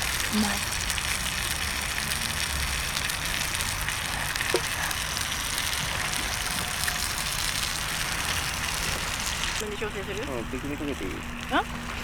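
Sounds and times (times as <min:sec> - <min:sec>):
bonfire crackling: 0:00.0 - 0:11.6.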